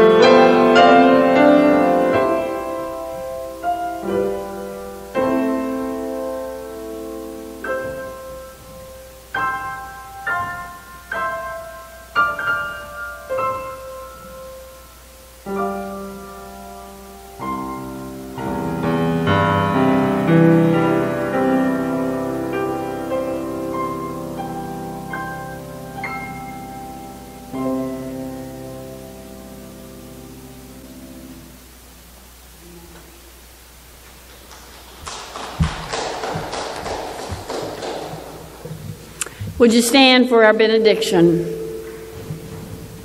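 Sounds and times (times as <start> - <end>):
solo piano chords and notes: 0.0 - 43.0.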